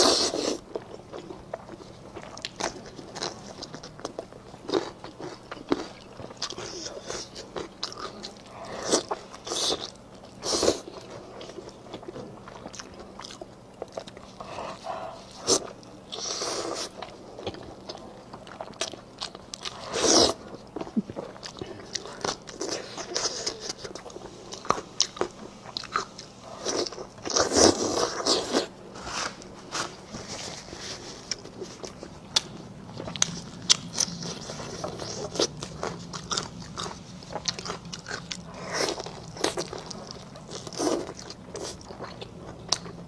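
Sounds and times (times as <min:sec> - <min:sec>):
biting and chewing meat: 0:00.0 - 0:28.7, 0:30.6 - 0:43.0.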